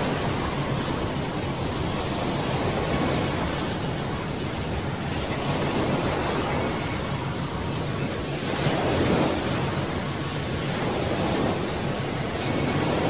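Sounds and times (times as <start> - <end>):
rush of wind and spray: 0.0 - 13.0
wind buffeting microphone: 0.0 - 13.0.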